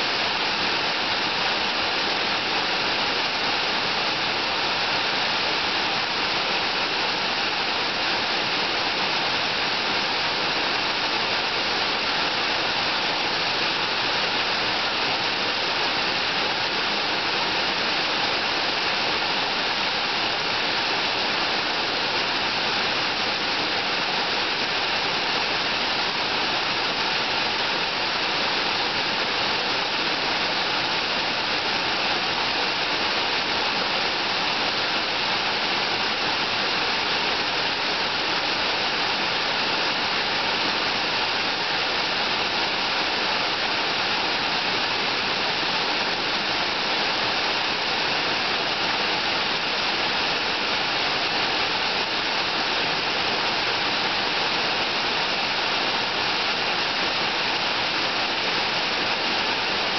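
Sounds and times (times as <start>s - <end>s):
waterfall splashing into pool: 0.0s - 59.9s.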